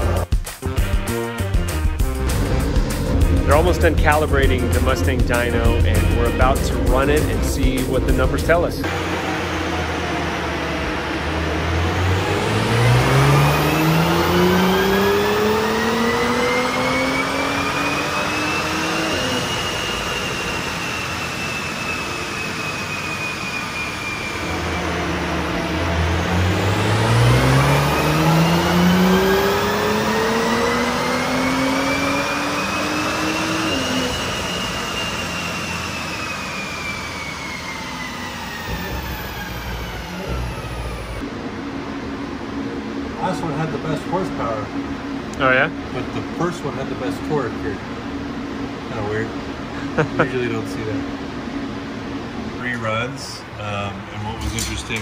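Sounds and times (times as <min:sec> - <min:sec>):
car engine revving on dyno: 0:00.0 - 0:55.0
dyno rollers whine: 0:00.0 - 0:55.0.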